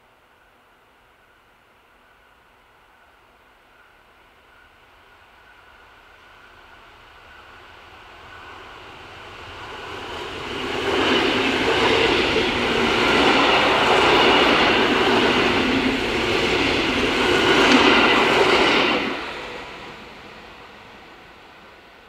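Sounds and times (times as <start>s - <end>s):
electric train passing: 1.0s - 22.0s.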